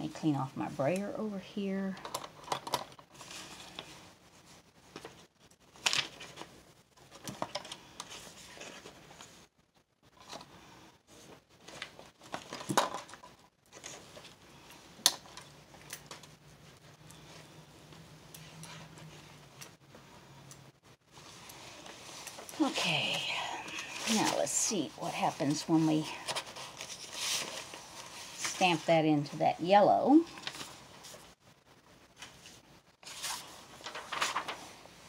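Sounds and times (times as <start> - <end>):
rustling: 2.0 - 20.2, 21.1 - 35.0.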